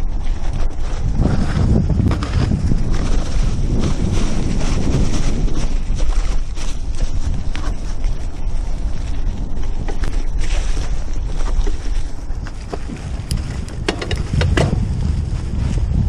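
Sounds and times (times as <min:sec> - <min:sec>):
bicycle clicks and rattles: 0:00.0 - 0:15.8
wind rumbling on microphone: 0:00.0 - 0:16.0.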